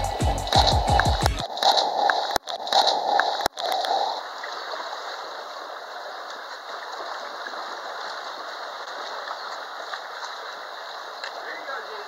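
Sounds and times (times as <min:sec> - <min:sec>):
pool water sloshing: 0:00.5 - 0:12.0.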